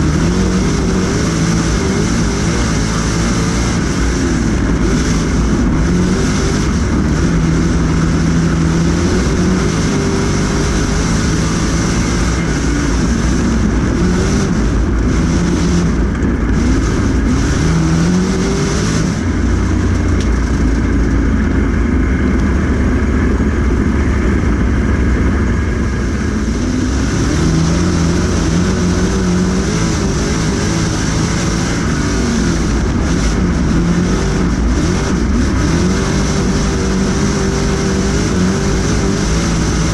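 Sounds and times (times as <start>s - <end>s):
race car engine: 0.0s - 39.9s
wind and track noise: 0.0s - 39.9s.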